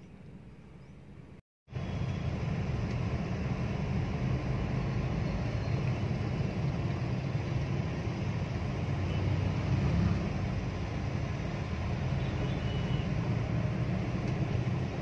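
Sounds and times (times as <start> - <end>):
car engine and road rumble: 1.7 - 15.0.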